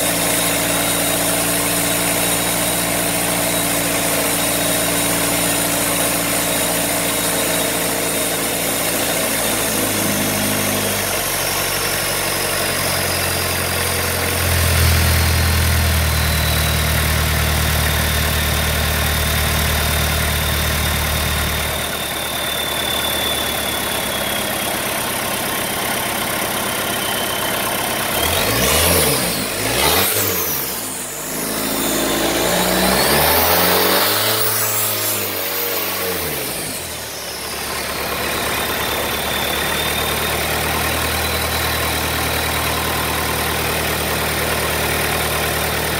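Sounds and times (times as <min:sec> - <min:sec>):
diesel engine revving: 0:00.0 - 0:45.9
diesel engine running: 0:00.0 - 0:45.9.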